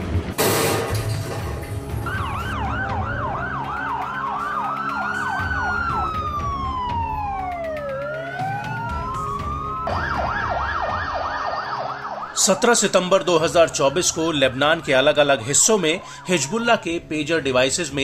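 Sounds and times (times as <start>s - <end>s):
fast yelping siren: 2.0s - 17.7s
wailing sirens: 2.0s - 18.0s.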